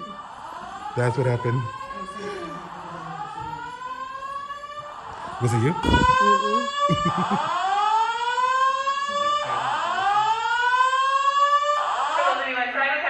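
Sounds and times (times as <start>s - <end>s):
evacuation alarm rising whoop: 0.0s - 12.5s.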